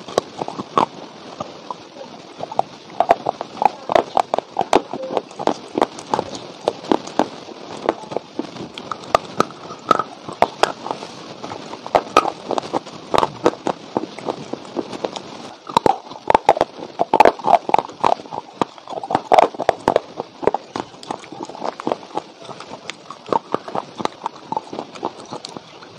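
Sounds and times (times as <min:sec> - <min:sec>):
clay crunching in mouth: 0:00.0 - 0:25.9.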